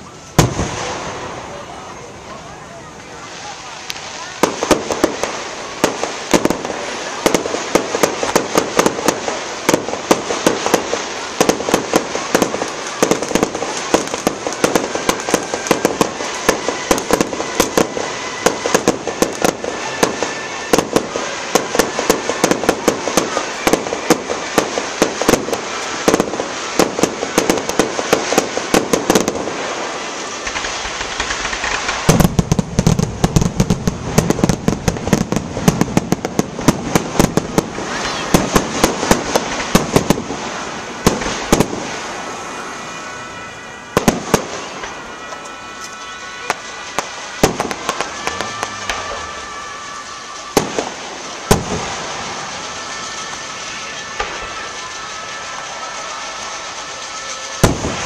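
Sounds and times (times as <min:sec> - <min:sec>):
fireworks cracking and popping: 0:00.0 - 0:58.0.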